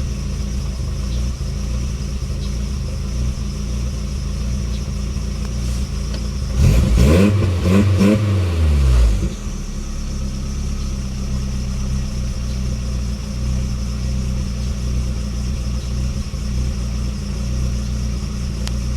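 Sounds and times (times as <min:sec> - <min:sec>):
pickup engine idling roughly: 0:00.0 - 0:07.2, 0:08.6 - 0:18.9
engine revving: 0:00.0 - 0:18.9.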